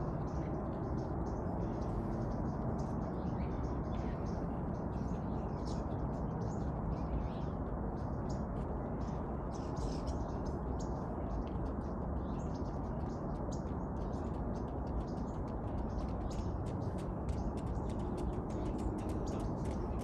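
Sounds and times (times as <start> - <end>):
low background rumble: 0.0 - 20.0
small birds chirping: 0.0 - 20.0.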